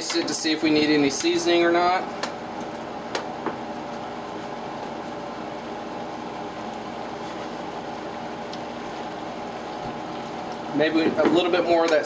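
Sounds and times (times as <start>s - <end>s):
fan-like hum: 0.0s - 12.0s.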